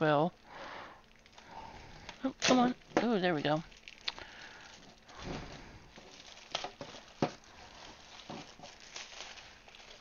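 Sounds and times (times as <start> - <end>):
plastic bag crinkling: 0.6 - 10.0.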